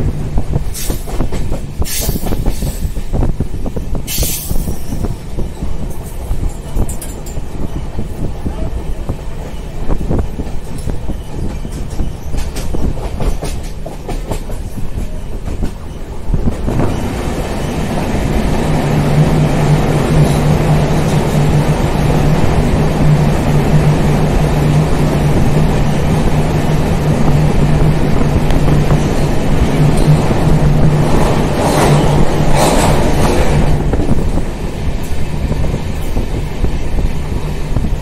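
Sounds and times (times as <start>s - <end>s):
train roaring in tunnel: 0.0s - 38.0s
train wheels clicking: 0.4s - 38.0s.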